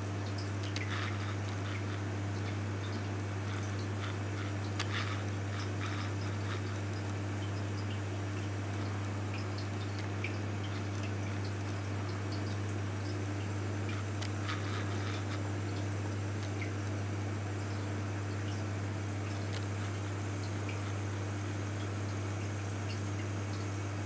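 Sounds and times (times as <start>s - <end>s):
pump humming: 0.0s - 24.0s
water dripping and trickling: 0.1s - 24.0s.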